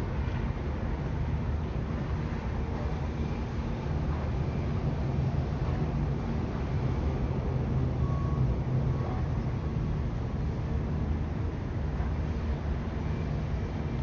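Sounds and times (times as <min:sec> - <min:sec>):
low rumble of city ambience: 0:00.0 - 0:14.0.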